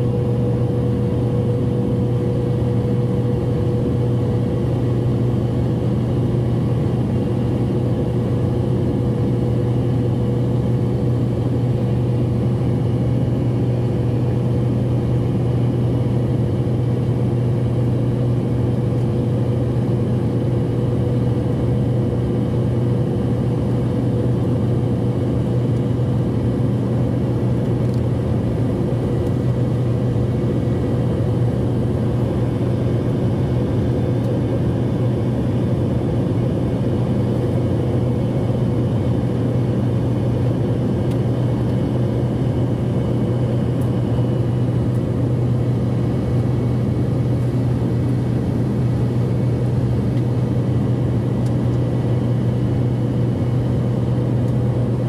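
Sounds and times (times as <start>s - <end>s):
jet airliner cabin drone: 0.0s - 55.0s.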